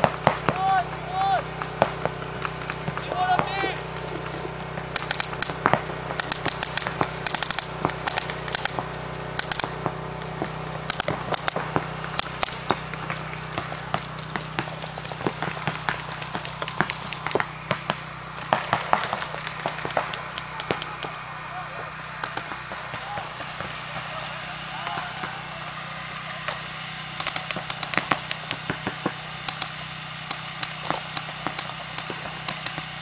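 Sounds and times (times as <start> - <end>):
paintball markers firing: 0.0 - 21.3, 22.2 - 33.0.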